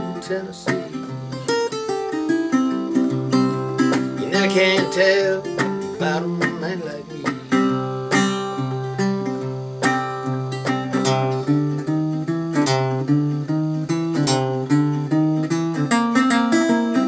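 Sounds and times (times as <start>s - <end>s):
fingerpicked acoustic guitar blues: 0.0s - 17.0s.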